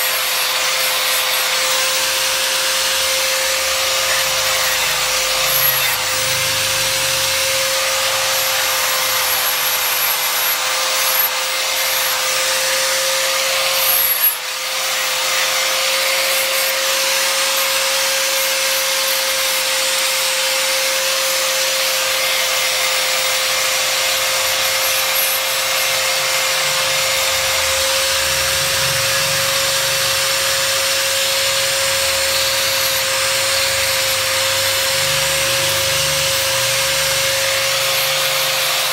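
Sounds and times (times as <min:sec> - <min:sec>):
angle grinder sanding steel: 0:00.0 - 0:38.9.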